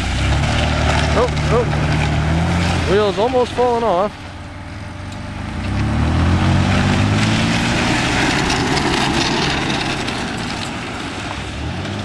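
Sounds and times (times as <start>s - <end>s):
van engine revving: 0.0s - 12.0s.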